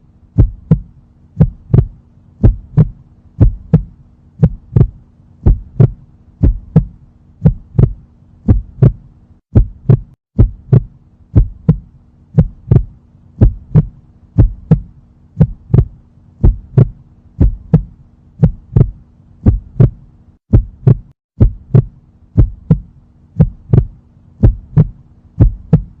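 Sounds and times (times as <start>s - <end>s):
steady low hum: 0.0s - 26.0s
heartbeat: 0.2s - 26.0s.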